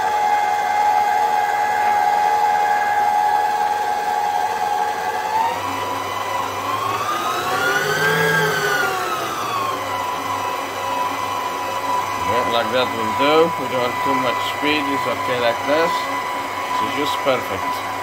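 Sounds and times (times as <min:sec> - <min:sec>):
stand mixer motor whine: 0:00.0 - 0:18.0.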